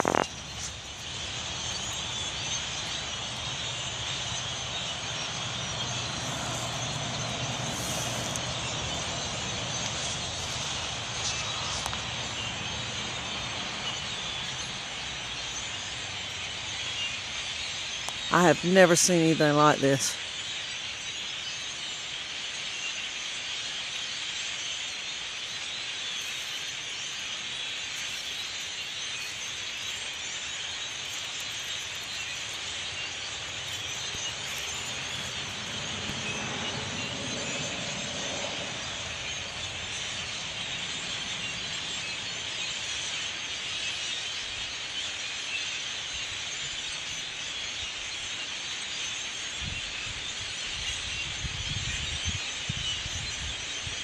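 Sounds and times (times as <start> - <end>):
flock of blackbirds calling: 0.0 - 54.0.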